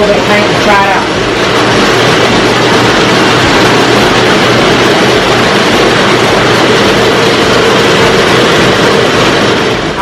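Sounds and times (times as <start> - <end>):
paint mixing machine droning: 0.0 - 10.0.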